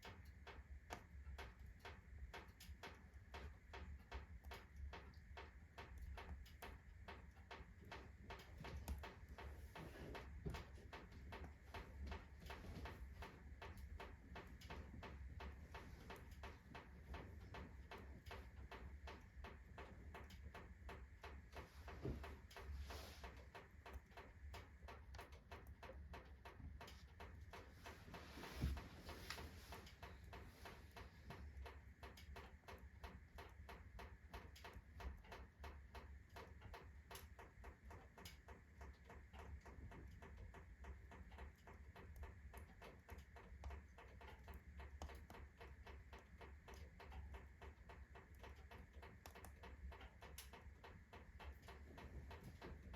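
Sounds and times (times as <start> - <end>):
firewood crackling in a stove: 0.0 - 52.9.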